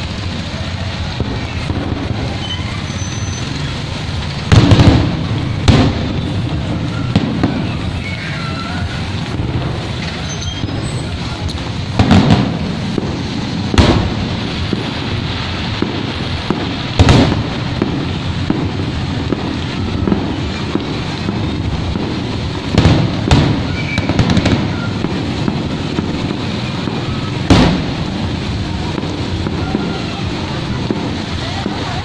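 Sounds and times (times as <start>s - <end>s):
fireworks bangs: 0.0s - 32.0s
rain hissing: 0.0s - 32.0s.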